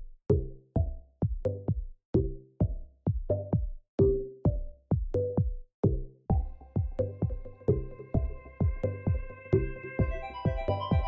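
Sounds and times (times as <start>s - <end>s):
electronic music with drum-machine beat: 0.0s - 11.0s.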